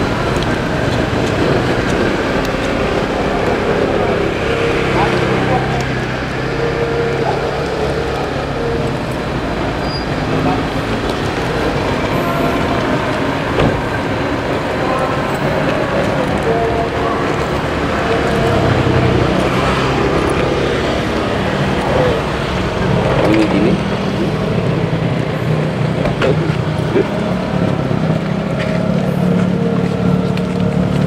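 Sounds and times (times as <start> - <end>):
motor vehicle engines running: 0.0 - 31.0
voices in background: 1.4 - 27.6.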